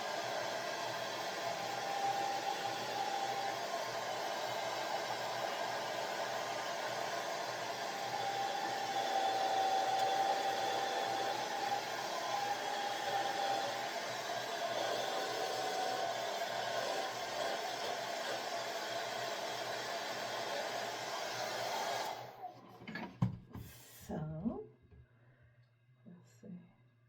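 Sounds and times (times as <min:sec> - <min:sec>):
hair dryer running: 0:00.0 - 0:22.6.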